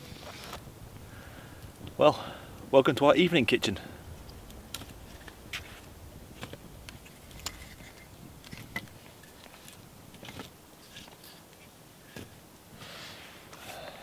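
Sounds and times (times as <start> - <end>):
low background hiss: 0.0 - 14.0.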